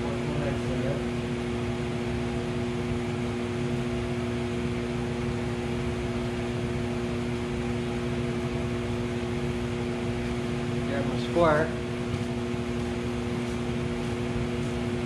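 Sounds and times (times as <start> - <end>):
fan humming with airy rush: 0.0 - 15.0.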